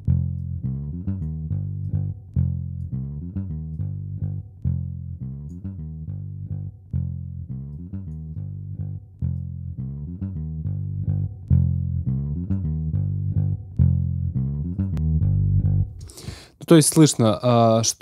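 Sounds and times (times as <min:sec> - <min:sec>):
electric bass guitar playing: 0:00.0 - 0:17.8.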